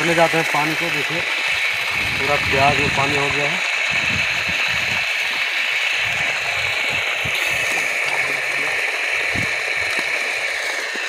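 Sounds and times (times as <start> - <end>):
water rushing along a channel: 0.0 - 11.0.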